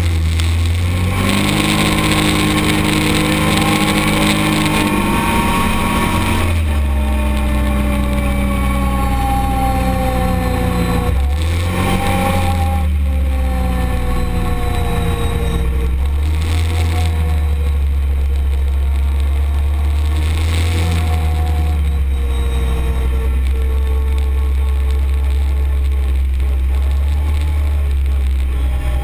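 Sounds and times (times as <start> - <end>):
utility vehicle engine droning: 0.0 - 29.0.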